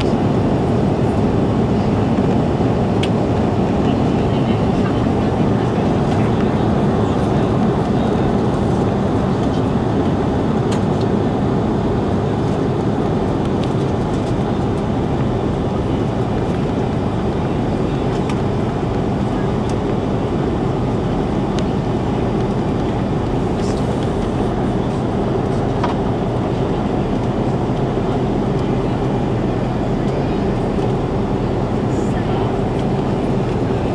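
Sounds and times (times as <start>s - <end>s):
jet engines in cabin: 0.0s - 33.9s.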